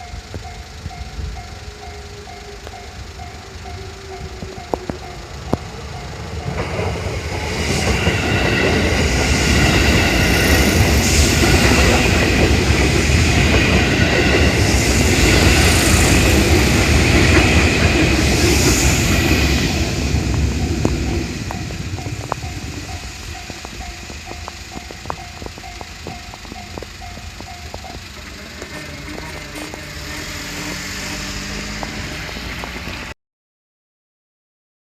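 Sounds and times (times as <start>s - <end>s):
wheels clacking over rail joints: 0.0s - 33.1s
electric train passing: 0.0s - 33.2s.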